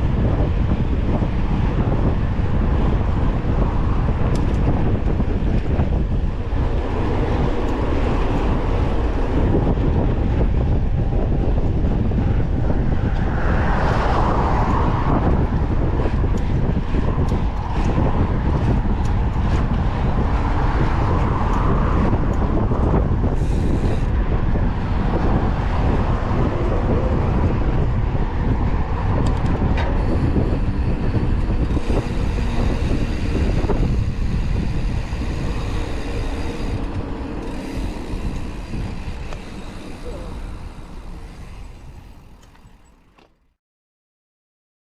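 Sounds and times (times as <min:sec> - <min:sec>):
wind buffeting: 0:00.0 - 0:43.4
bike trail rumble: 0:00.0 - 0:43.6.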